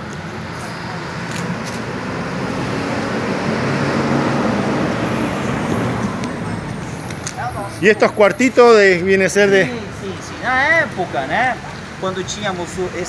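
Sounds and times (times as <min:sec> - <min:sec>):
motor vehicle passing: 0:00.0 - 0:13.0.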